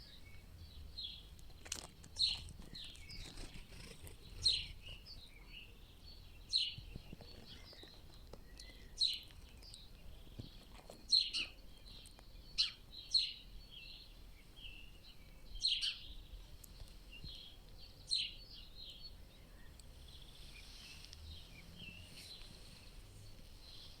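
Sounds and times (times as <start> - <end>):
soft bird twittering: 2.2 - 24.0
songbirds high calls: 2.2 - 24.0.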